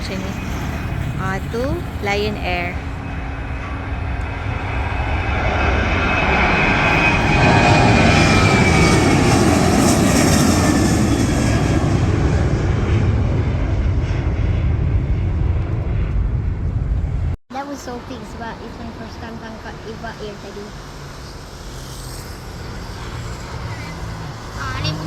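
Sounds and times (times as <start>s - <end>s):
jet airliner passing: 0.0s - 25.0s.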